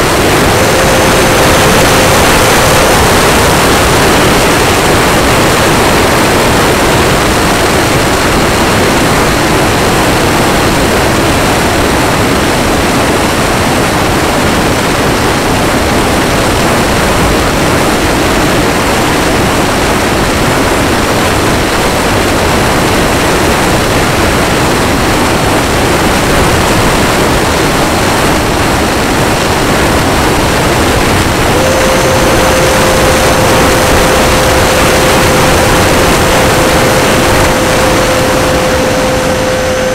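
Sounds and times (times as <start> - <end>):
model jet wind and fan rush: 0.0 - 39.9
steady whine: 0.0 - 39.9.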